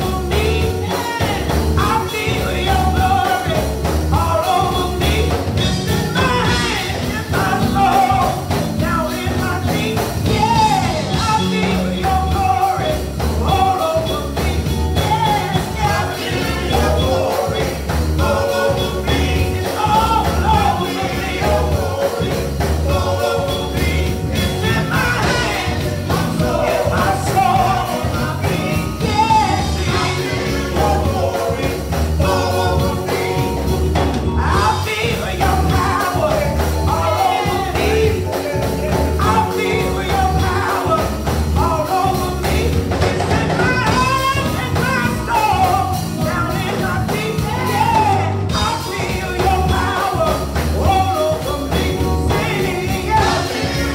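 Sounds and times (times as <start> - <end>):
gospel singers singing: 0.0 - 53.9
instrumental backing with beat: 0.0 - 53.9.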